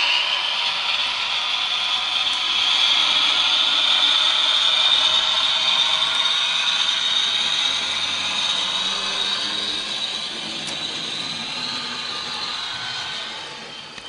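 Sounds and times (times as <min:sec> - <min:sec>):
model train motor whine: 0:00.0 - 0:14.0
wheels whirring and clattering: 0:00.0 - 0:14.0.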